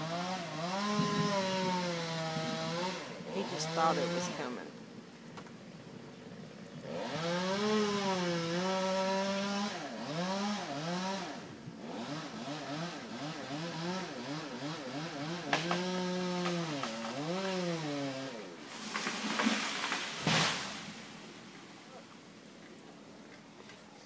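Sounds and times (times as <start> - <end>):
chainsaw cutting: 0.0 - 5.6, 6.3 - 22.0.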